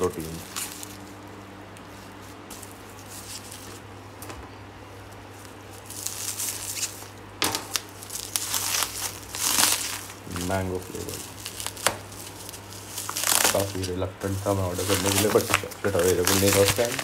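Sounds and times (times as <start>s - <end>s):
bubble wrap crinkling: 0.0s - 4.2s, 4.9s - 17.0s
low steady hum: 0.0s - 17.0s.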